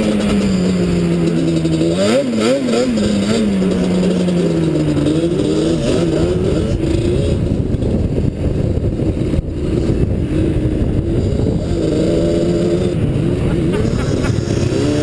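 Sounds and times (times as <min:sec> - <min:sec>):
quad bike engine: 0:00.0 - 0:15.0.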